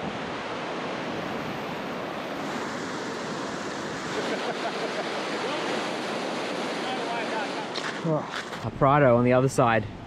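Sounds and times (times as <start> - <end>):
river water rushing: 0.0 - 8.6.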